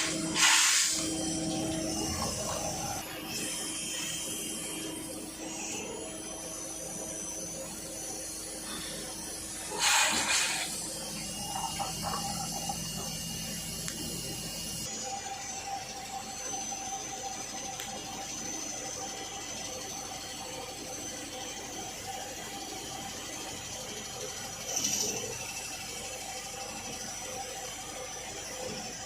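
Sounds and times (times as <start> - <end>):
lathe mechanical hum: 0.0 - 29.0.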